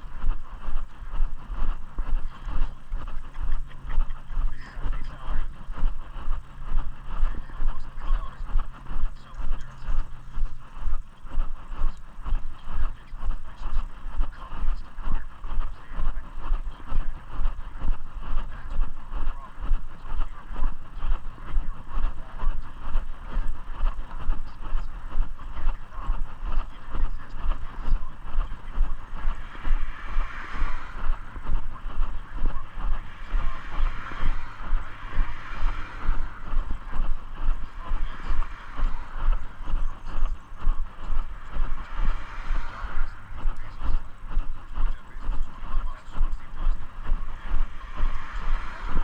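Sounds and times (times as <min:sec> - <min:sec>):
steady background noise: 0:00.0 - 0:49.0.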